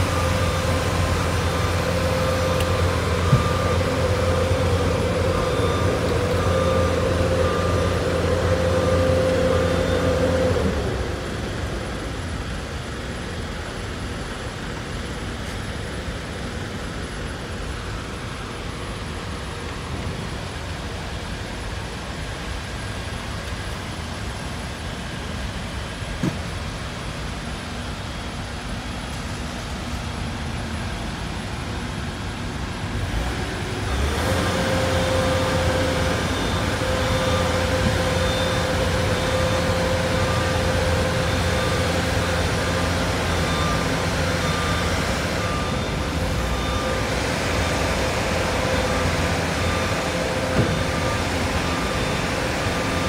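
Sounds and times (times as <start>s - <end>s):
traffic noise: 0.0s - 23.5s, 25.5s - 53.0s
held whine: 0.0s - 53.0s
mechanical hum: 0.0s - 53.0s.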